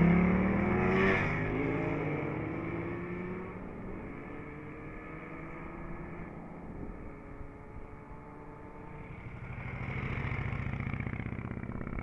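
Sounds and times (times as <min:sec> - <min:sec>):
motorcycle engines: 0:00.0 - 0:12.0.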